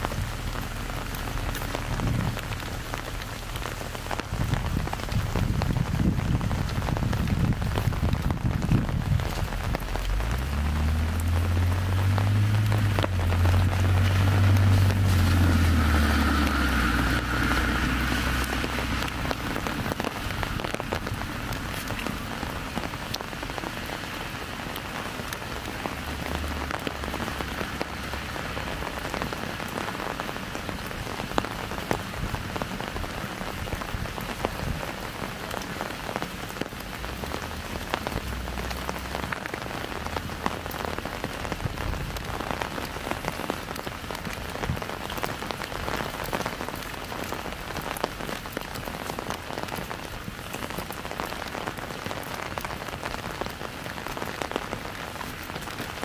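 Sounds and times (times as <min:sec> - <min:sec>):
passing traffic rumble: 0:00.0 - 0:56.0
rain ticking on umbrella: 0:00.0 - 0:56.0.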